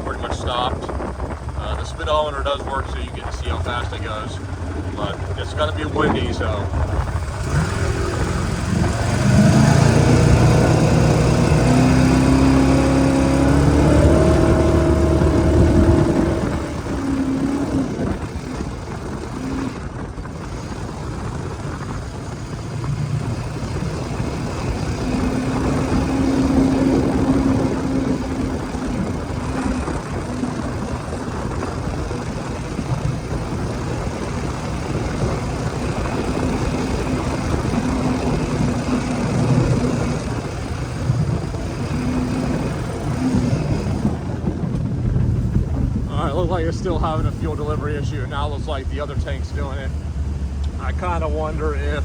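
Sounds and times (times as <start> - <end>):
boat engine accelerating: 0.0 - 52.0.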